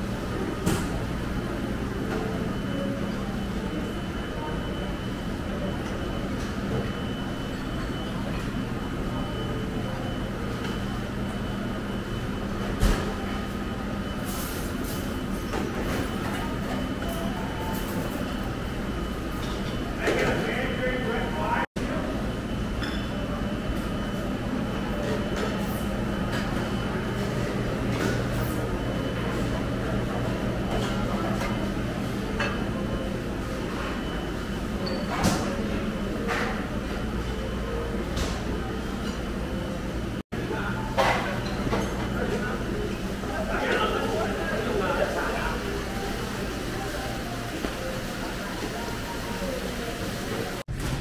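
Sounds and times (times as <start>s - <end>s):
constant electrical hum: 0.0s - 51.0s.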